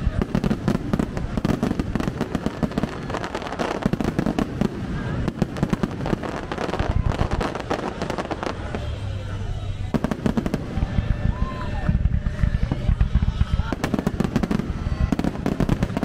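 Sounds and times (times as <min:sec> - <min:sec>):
firework crackling pops: 0:00.0 - 0:09.0, 0:09.8 - 0:16.0
deep firework booms: 0:00.0 - 0:09.1, 0:09.8 - 0:16.0.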